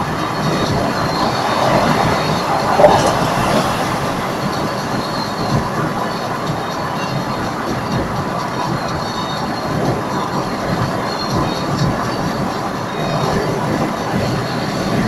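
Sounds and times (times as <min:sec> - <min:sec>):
tyre and wind noise in car: 0:00.0 - 0:15.0.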